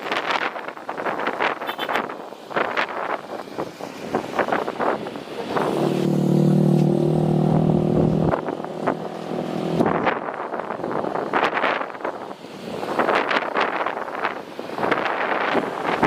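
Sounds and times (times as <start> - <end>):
wind gusting across microphone: 0.0 - 16.0
engine hum: 3.1 - 16.0.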